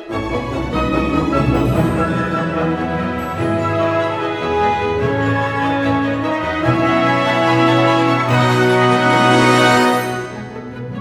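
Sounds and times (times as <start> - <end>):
trailer music with held chords: 0.0 - 11.0.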